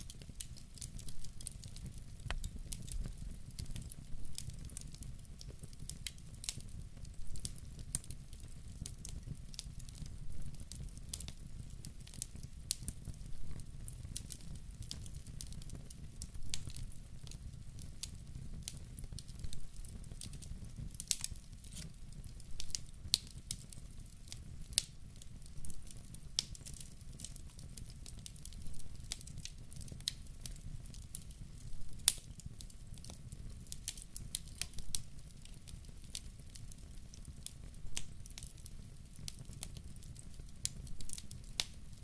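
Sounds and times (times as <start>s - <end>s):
burning wood crackling and popping: 0.0s - 42.0s
fire flames rumbling: 0.0s - 42.0s.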